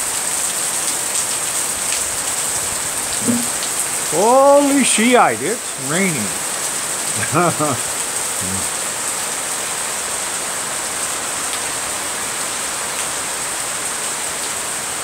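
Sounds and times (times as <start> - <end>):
rain on plants and patio: 0.0 - 15.0.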